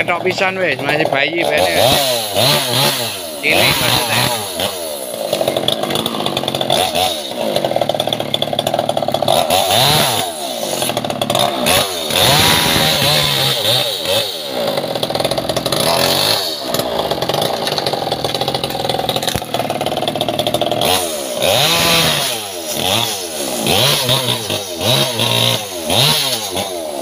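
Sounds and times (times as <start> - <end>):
chainsaw revving and idling: 0.0 - 27.0.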